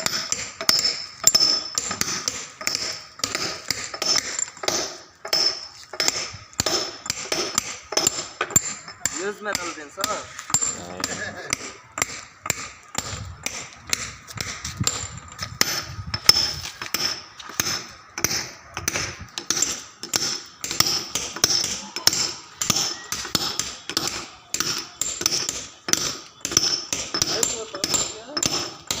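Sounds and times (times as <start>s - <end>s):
hammer striking chisel on stone: 0.0s - 29.0s.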